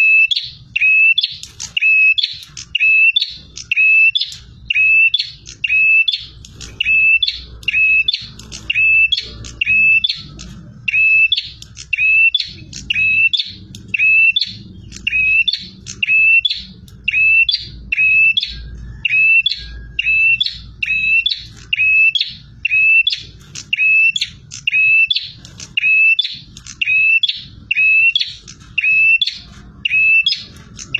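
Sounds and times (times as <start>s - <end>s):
bird chirping call: 0.0s - 30.9s.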